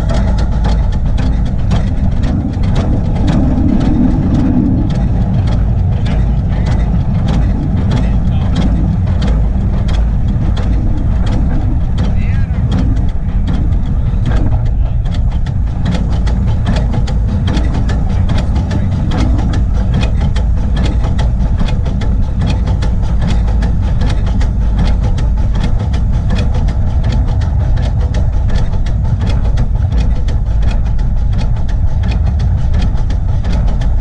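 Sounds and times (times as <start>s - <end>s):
steam locomotive running: 0.0s - 34.0s.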